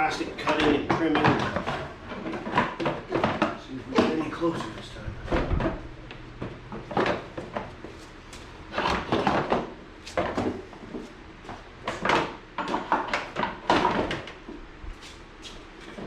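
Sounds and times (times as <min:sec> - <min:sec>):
plastic knocks rattles and scrapes: 0:00.0 - 0:08.1, 0:08.7 - 0:14.6.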